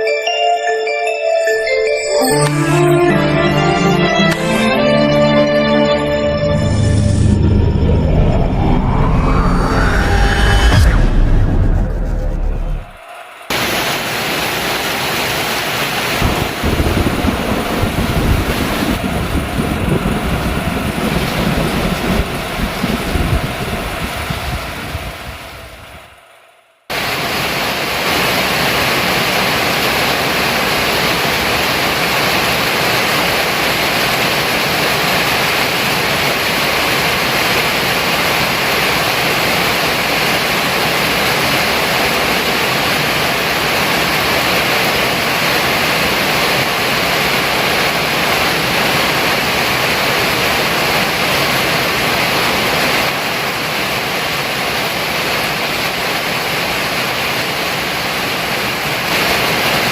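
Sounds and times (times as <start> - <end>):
heavy rain pouring: 2.3 - 26.3, 26.9 - 59.9.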